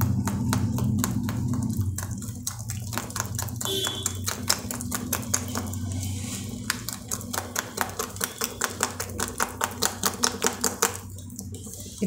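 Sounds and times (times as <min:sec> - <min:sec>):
batter beaten in steel bowl: 0:00.0 - 0:12.0.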